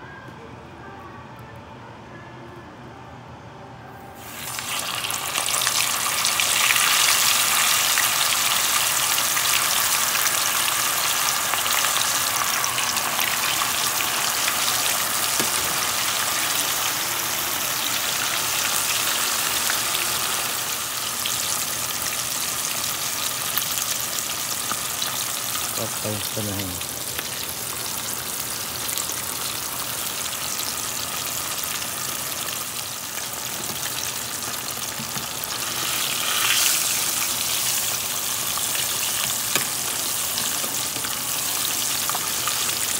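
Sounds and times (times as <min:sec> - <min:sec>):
fish sizzling in hot oil: 0:04.2 - 0:42.9.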